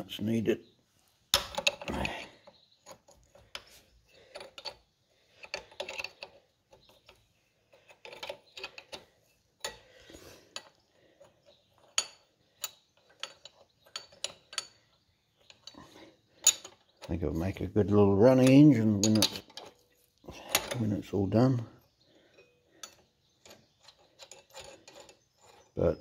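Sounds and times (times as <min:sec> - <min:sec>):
metal parts clinking: 0:01.4 - 0:09.9, 0:10.5 - 0:17.6, 0:18.2 - 0:21.6, 0:22.2 - 0:26.0
metal parts rattling: 0:01.4 - 0:25.9.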